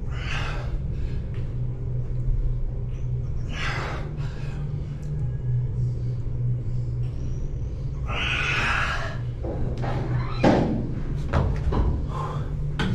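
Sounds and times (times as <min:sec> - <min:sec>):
ventilation hum: 0:00.0 - 0:12.9.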